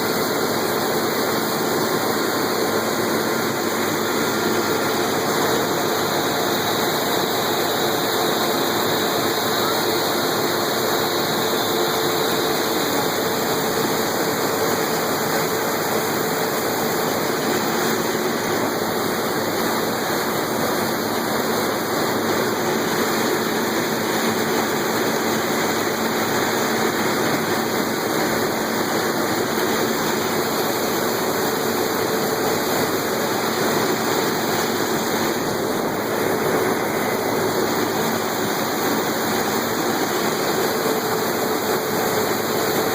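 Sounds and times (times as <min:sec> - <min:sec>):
harvest machinery running: 0:00.0 - 0:42.9.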